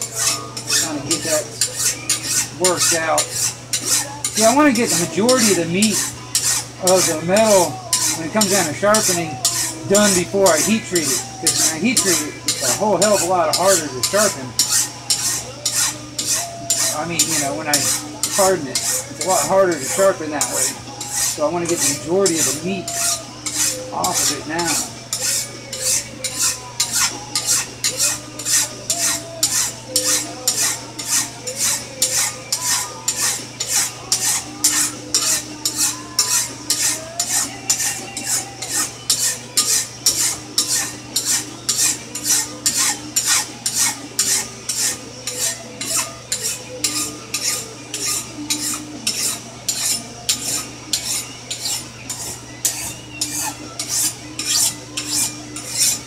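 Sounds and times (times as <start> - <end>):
file rasping on metal blade: 0.0 - 56.0.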